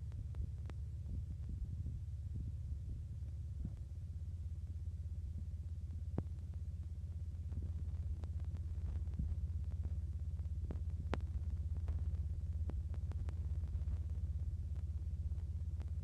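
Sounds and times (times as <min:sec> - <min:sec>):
low pulsing hum and rumble: 0:00.0 - 0:16.0.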